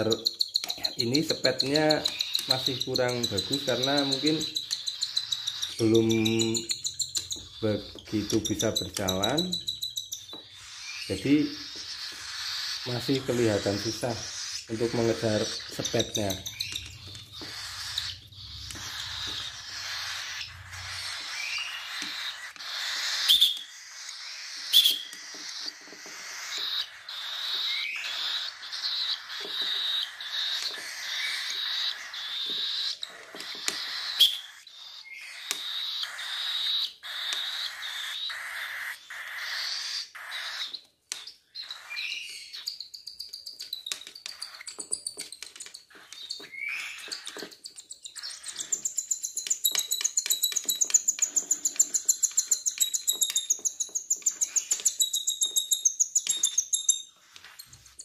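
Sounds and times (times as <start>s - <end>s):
cockatiel chicks begging calls: 0.0s - 58.0s.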